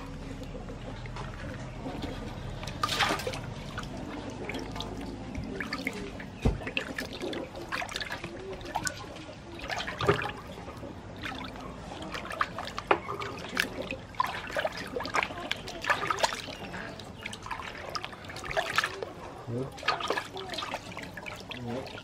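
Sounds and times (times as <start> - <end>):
water sloshing and trickling: 0.0 - 22.0
meat splashing into water: 0.6 - 22.0.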